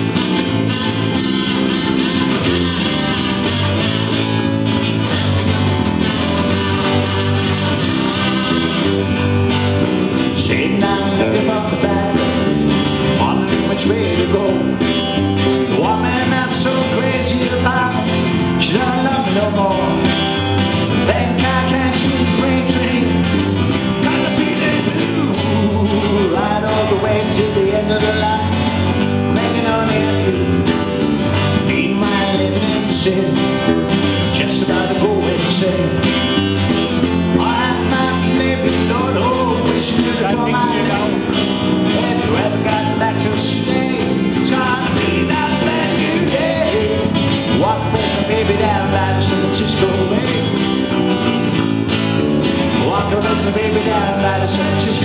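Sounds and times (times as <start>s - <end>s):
lead guitar with bending notes: 0.0s - 55.0s
strummed acoustic guitar: 0.0s - 55.0s.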